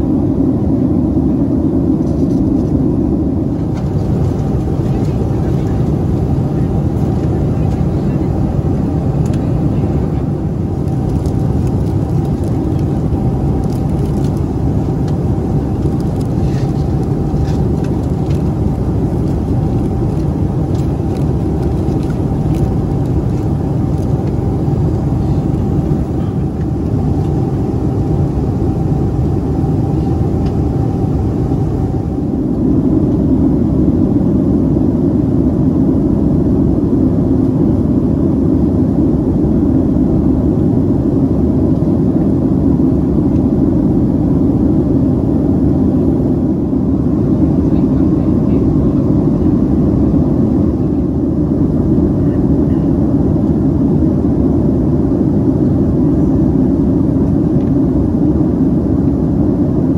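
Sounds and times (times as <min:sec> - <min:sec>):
airplane cabin roar: 0:00.0 - 0:59.9.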